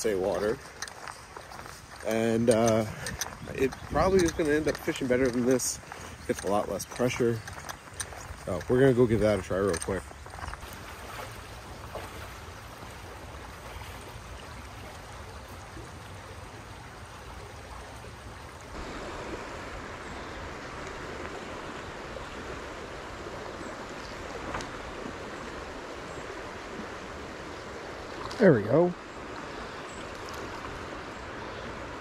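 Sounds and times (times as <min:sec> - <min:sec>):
creek water flowing over rocks: 0:00.0 - 0:32.0.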